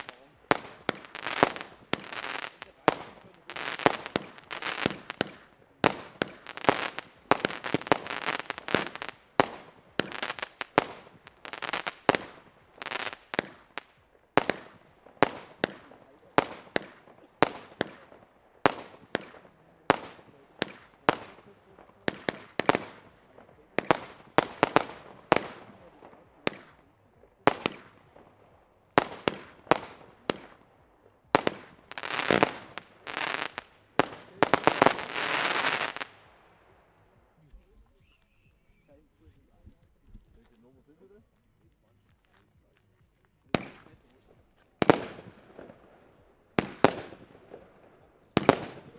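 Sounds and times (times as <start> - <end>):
firework bangs: 0.0 - 36.8, 43.5 - 48.9
firework crackling: 0.0 - 42.7, 43.5 - 48.9.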